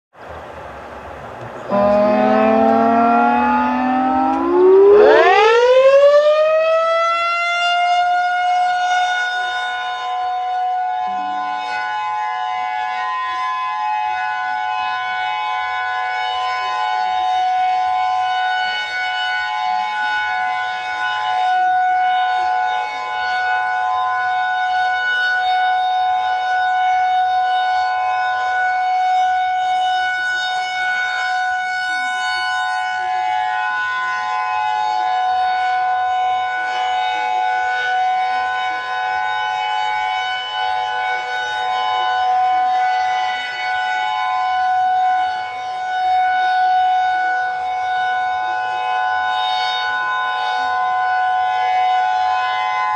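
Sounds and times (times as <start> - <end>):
emergency alert alarm: 1.7 - 52.9.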